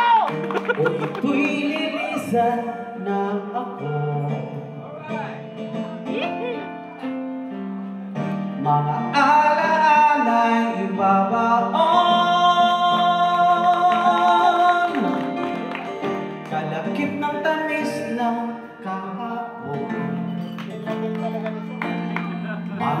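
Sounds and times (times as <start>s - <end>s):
person singing: 0.0s - 6.8s, 8.6s - 23.0s
guitar accompaniment: 0.0s - 23.0s.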